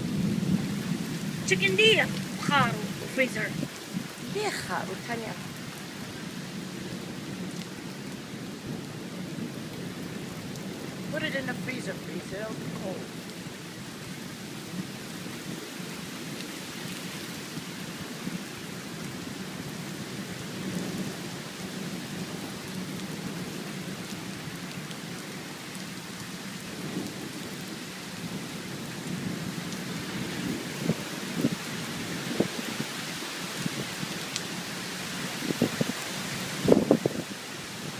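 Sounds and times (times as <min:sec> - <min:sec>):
heavy rain hissing and pattering: 0:00.0 - 0:37.9.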